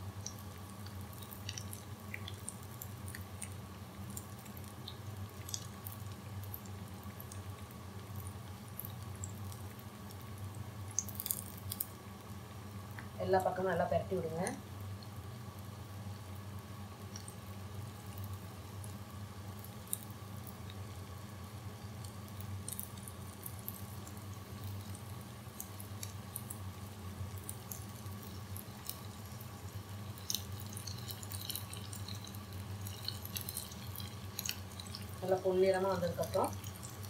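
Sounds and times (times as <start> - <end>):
food deep-frying in oil: 0.0 - 37.0
low steady hum: 0.0 - 37.0.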